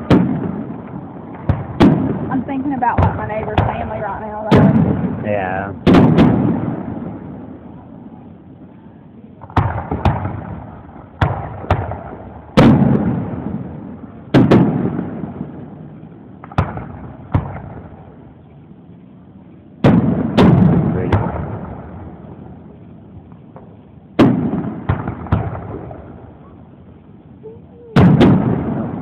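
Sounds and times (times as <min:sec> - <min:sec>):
fireworks bursting with echo: 0:00.0 - 0:29.0.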